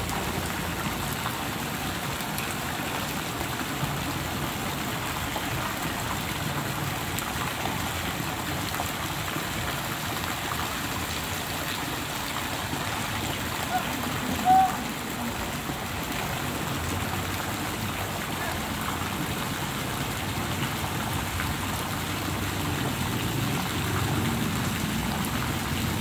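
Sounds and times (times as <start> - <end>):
pool water rushing and lapping: 0.0 - 26.0.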